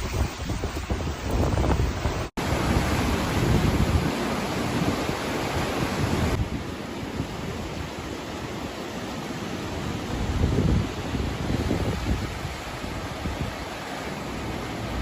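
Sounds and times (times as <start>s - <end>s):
storm wind buffeting microphone: 0.0s - 8.8s, 9.5s - 15.0s.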